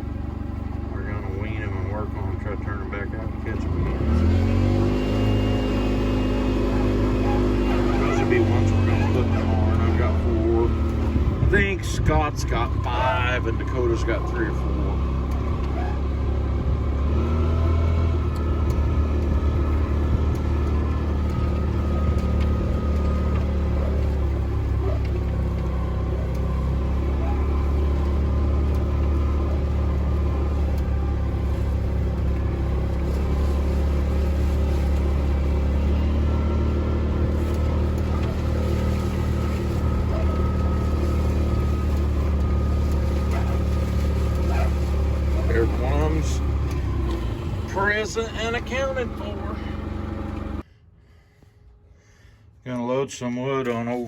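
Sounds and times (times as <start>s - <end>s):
vehicle engine running: 0.0s - 50.7s.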